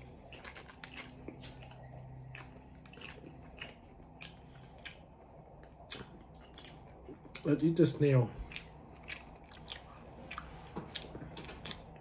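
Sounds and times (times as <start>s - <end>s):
crisp chewing crunches: 0.0s - 12.0s
low steady hum: 0.0s - 12.0s.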